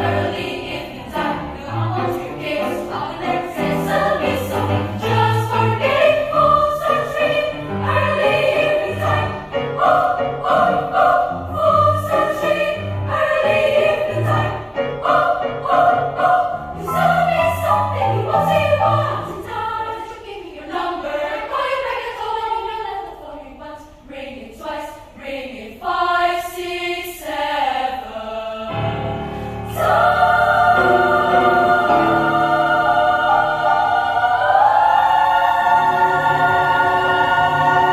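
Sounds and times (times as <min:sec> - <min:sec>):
children's choir singing: 0:00.0 - 0:37.9.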